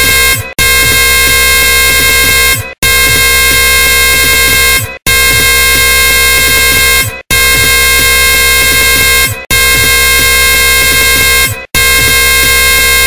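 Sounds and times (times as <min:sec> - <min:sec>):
harsh buzzing blare: 0:00.0 - 0:13.0.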